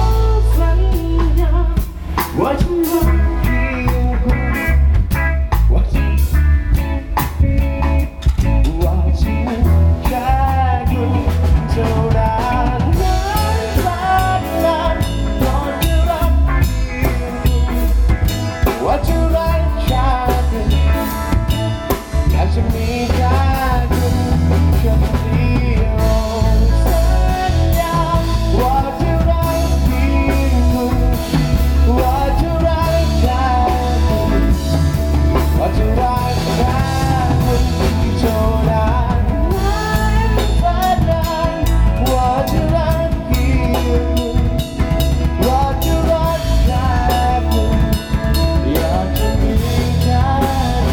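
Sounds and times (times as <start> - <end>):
melodic lead guitar line: 0.0 - 50.9
pop-rock song: 0.0 - 50.9.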